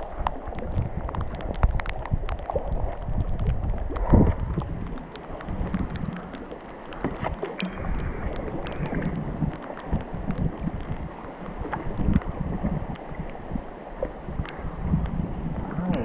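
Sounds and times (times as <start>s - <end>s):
paddle splashes and drips: 0.0s - 16.0s
wind rumbling on microphone: 0.0s - 16.0s.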